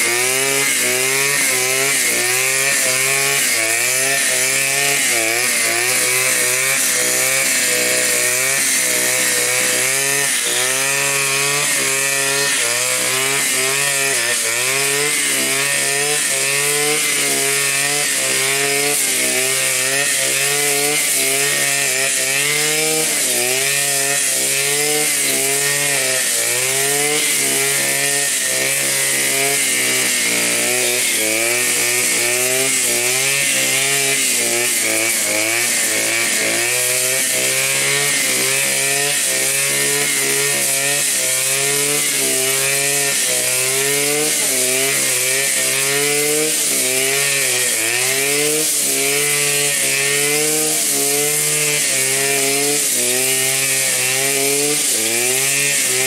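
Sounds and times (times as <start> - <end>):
brushcutter cutting grass: 0.0 - 56.0.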